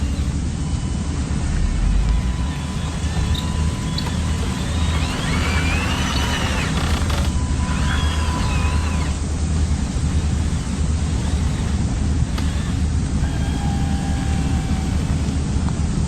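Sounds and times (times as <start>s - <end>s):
low engine-like hum: 0.0s - 16.0s
whine of small electric motors: 0.0s - 16.0s.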